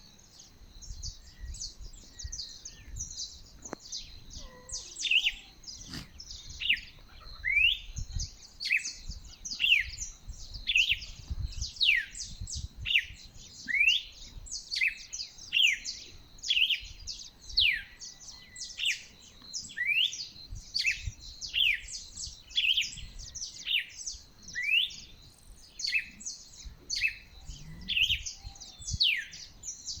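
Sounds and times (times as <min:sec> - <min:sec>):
birds calling: 0:01.3 - 0:30.0.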